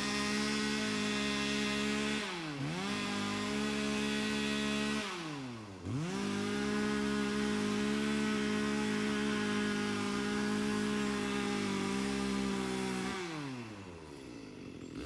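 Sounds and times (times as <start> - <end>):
chainsaw running at high revs: 0.0 - 15.0.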